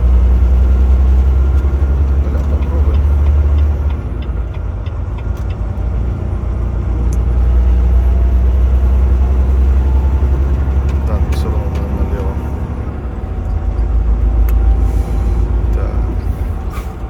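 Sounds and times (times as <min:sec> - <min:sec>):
road and tyre noise: 0:00.0 - 0:17.0
truck engine drone: 0:00.0 - 0:17.0.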